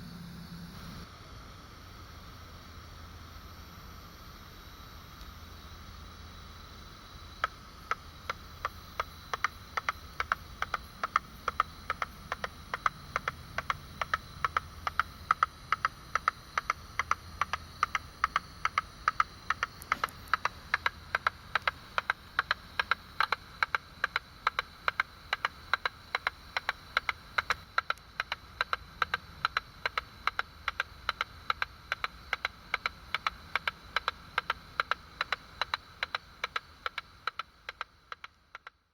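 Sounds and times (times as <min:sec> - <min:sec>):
low hiss: 0:00.0 - 0:38.9
katydid clicks via bat detector: 0:07.0 - 0:38.9.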